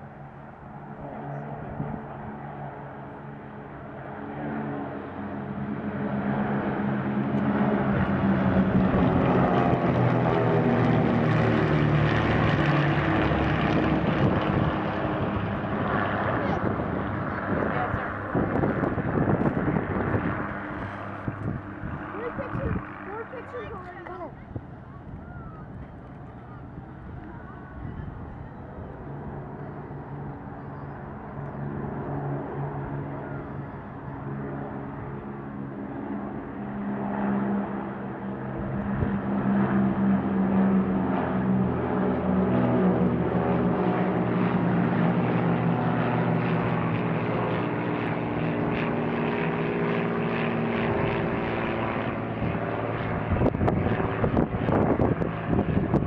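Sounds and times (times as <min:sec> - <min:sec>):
aircraft engine drone: 0:00.0 - 0:56.0
propeller planes flying overhead: 0:00.0 - 0:56.0.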